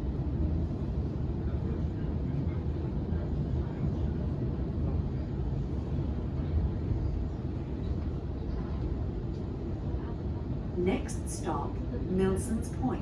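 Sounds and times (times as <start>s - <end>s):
electric train interior rumble: 0.0s - 13.0s.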